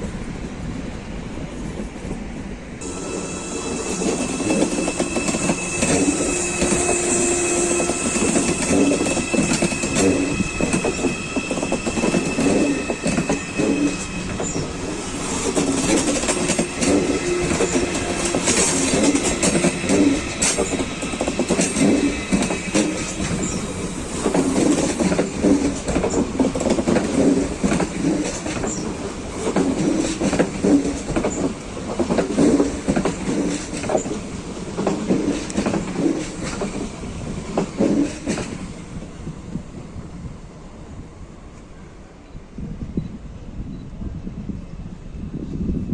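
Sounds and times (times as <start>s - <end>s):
train wheels clattering: 1.6s - 38.8s.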